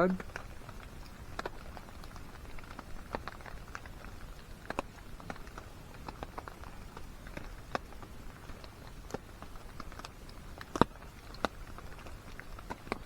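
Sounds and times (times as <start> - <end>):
faint steady hiss: 0.0 - 13.0
rain dripping and pattering: 0.0 - 13.0.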